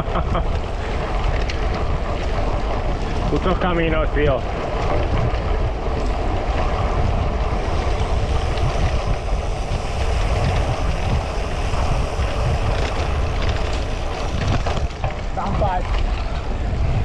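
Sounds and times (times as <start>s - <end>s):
bike tyres rolling on path: 0.0s - 17.0s
wind rush on microphone: 0.0s - 17.0s.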